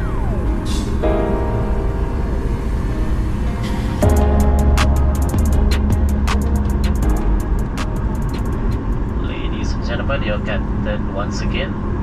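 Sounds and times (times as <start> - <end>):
music playing: 0.0 - 9.8
airliner engine hum: 0.0 - 12.0.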